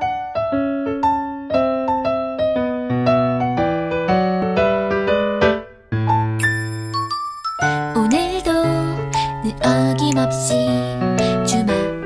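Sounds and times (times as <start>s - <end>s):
electric piano melody: 0.0s - 12.0s.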